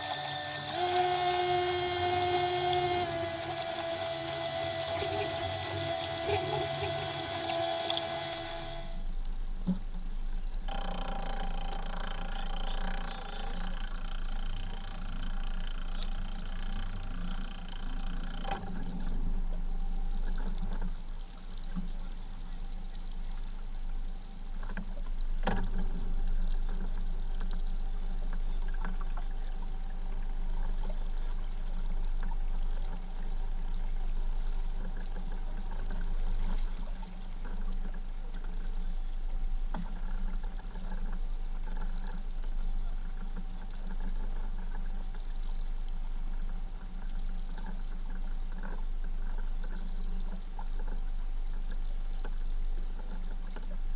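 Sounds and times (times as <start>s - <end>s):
low hum: 0.0s - 53.9s
water lapping on boat hull: 0.0s - 53.9s.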